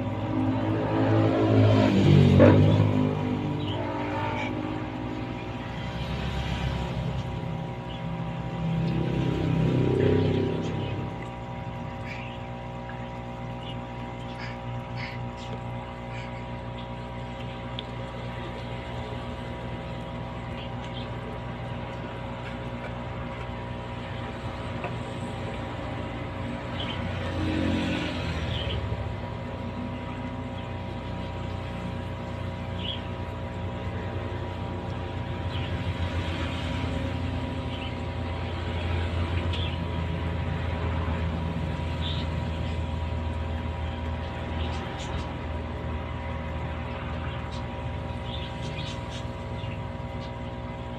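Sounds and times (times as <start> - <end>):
aquarium pump humming: 0.0 - 50.9.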